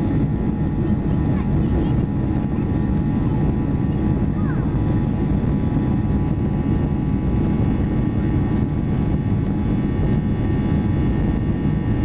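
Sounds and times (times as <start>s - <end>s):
airplane cabin engine rumble: 0.0s - 12.0s
faint engine whine: 0.0s - 12.0s.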